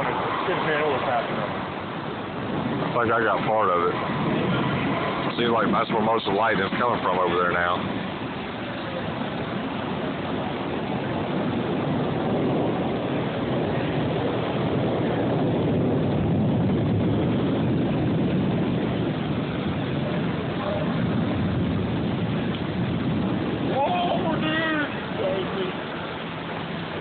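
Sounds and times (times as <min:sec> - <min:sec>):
wind and rain rushing: 0:00.0 - 0:27.0.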